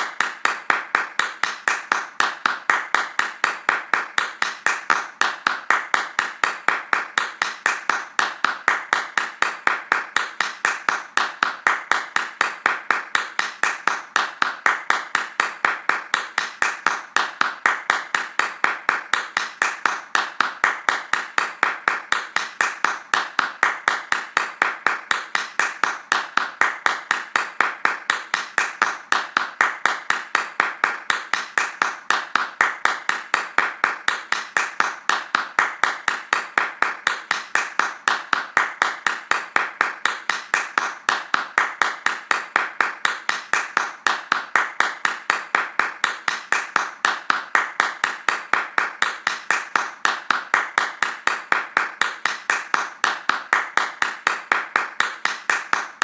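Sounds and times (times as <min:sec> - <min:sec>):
fast hand clapping: 0:00.0 - 0:56.0.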